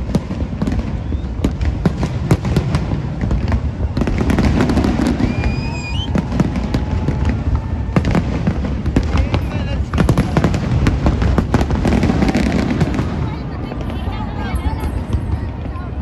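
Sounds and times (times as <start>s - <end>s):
firework whistling: 0.0s - 15.7s
fireworks bangs and crackles: 0.0s - 16.0s.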